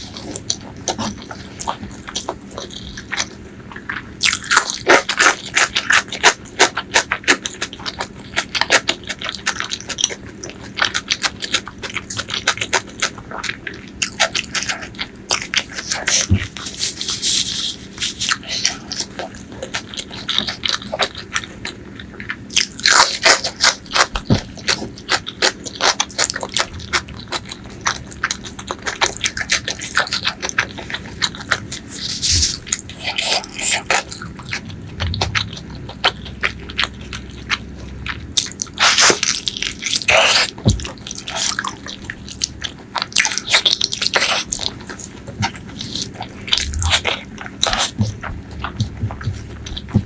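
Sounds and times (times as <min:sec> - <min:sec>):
wet chewing and lip-smacks: 0:00.0 - 0:50.0.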